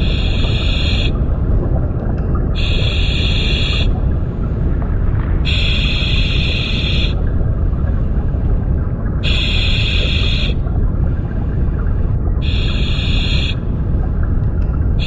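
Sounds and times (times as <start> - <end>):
underwater river current rumble: 0.0 - 15.0.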